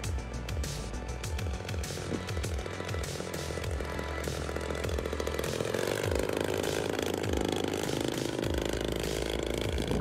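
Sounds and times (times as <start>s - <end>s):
model plane engine flying past: 1.5s - 10.0s.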